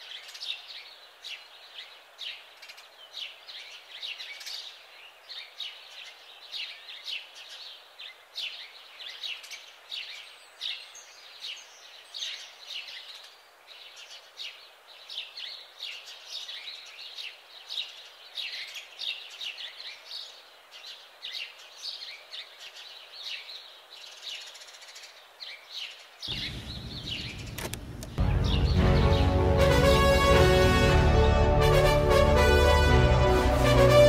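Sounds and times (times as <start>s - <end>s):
faint background hiss: 0.0s - 28.2s
small songbirds chirping: 0.0s - 29.4s.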